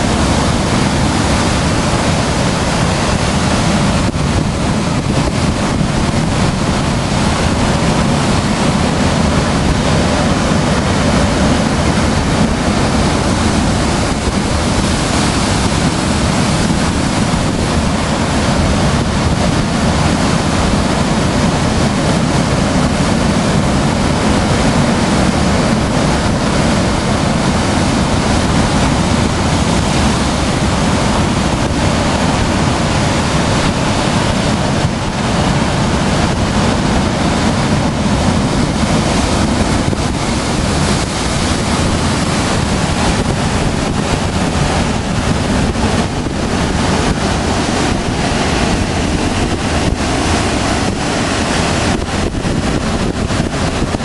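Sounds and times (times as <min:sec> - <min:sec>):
storm waves breaking: 0:00.0 - 0:54.0
wind buffeting microphone: 0:00.0 - 0:54.0.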